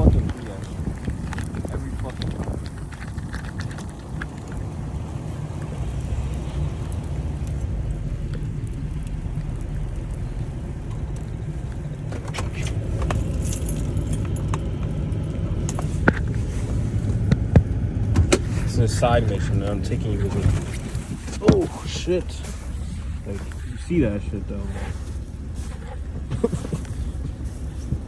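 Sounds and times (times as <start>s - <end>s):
light rattles and ticks: 0.0s - 28.0s
vehicle rumble in snow: 0.0s - 28.0s.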